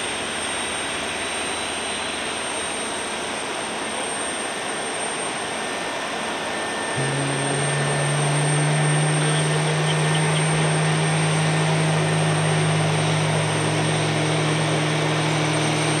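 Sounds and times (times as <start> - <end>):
jet airliner engines idling: 0.0 - 16.0.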